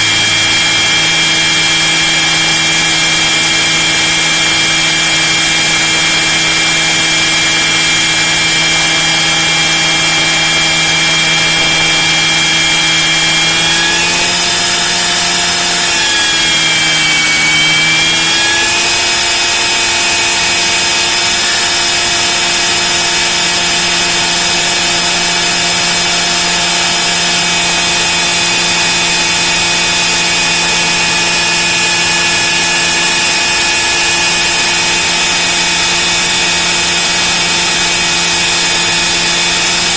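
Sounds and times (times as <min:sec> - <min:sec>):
model helicopter drive whining: 0:00.0 - 0:39.9.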